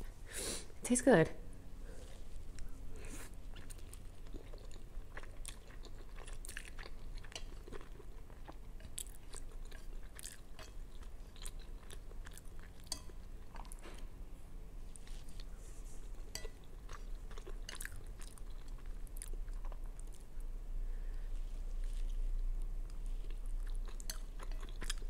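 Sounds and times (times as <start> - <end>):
person chewing noodles: 1.9 - 13.8, 14.9 - 25.0.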